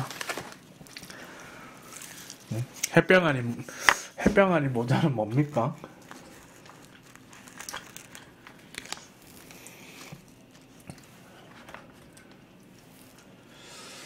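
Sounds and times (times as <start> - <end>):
plastic wrapping rustling: 0.0 - 13.6.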